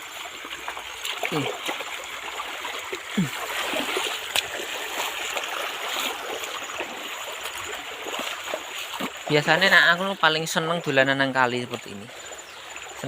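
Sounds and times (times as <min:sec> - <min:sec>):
river babbling over stones: 0:00.0 - 0:13.0
small water splashes: 0:00.0 - 0:13.0.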